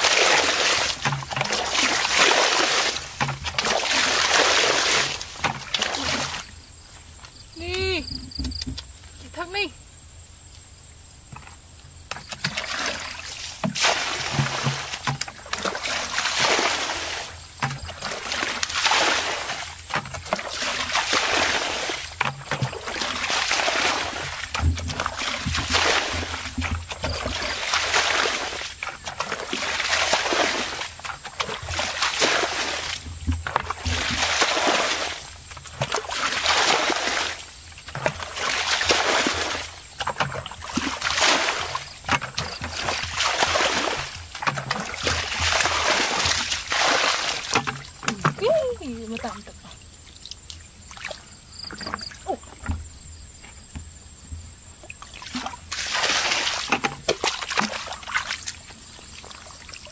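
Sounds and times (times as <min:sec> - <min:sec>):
water splashing from bucket: 0:00.0 - 0:06.6, 0:12.1 - 0:52.9, 0:54.8 - 0:59.9.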